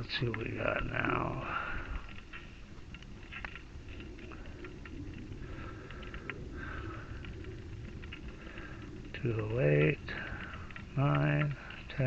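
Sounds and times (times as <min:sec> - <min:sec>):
low fire rumble: 0:00.0 - 0:12.0
wood fire crackling: 0:00.0 - 0:12.0.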